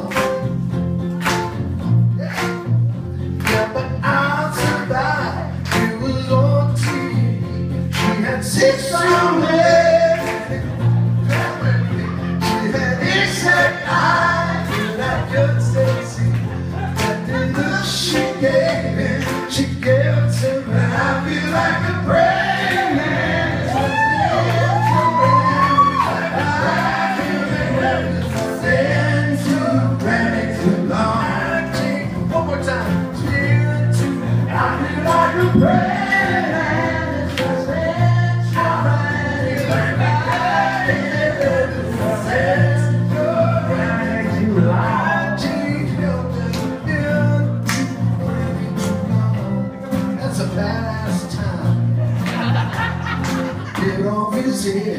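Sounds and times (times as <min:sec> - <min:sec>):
live band playing: 0:00.0 - 0:54.9
man and woman singing: 0:03.5 - 0:10.8, 0:11.4 - 0:48.0.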